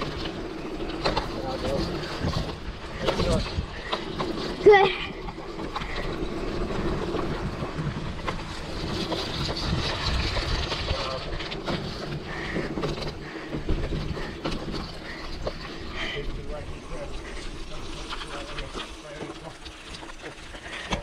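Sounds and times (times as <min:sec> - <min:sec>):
bike rattling: 0:00.0 - 0:21.0
bike tyres rumbling on dirt: 0:00.0 - 0:21.0.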